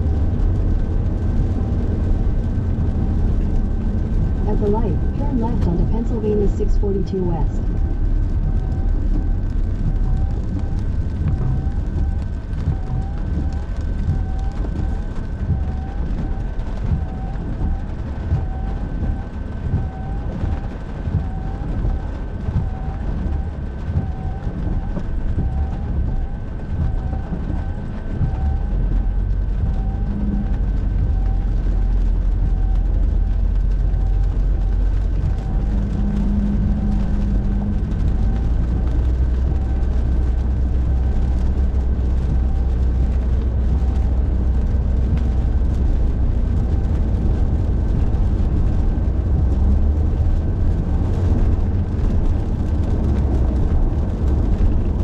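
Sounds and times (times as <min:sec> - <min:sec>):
road and rain noise: 0:00.0 - 0:55.0.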